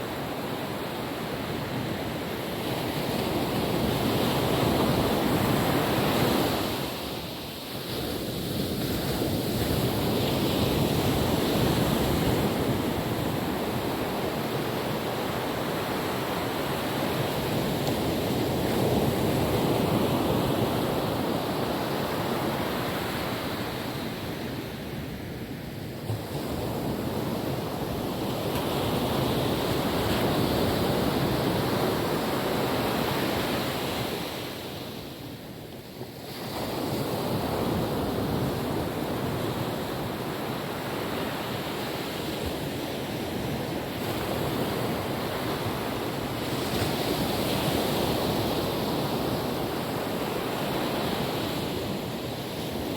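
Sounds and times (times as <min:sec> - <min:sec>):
ocean waves washing on beach: 0:00.0 - 0:52.9
wind noise on microphone: 0:00.0 - 0:52.9.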